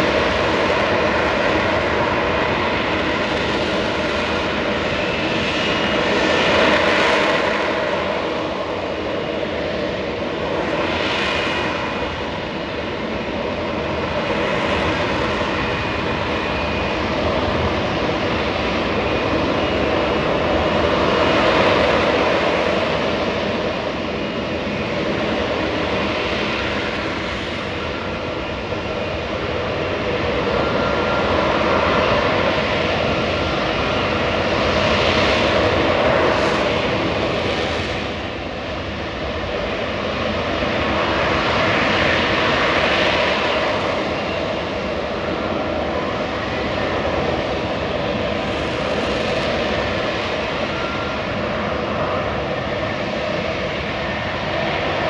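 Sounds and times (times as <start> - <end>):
jet engine roaring: 0.0 - 55.0.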